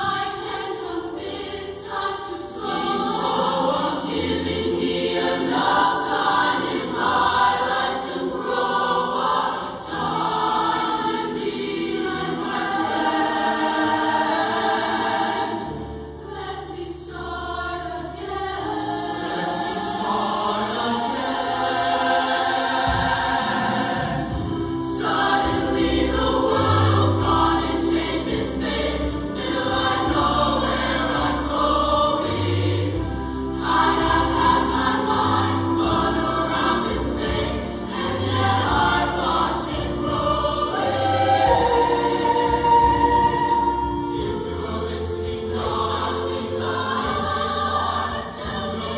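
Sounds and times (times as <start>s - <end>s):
choir singing: 0.0s - 48.9s.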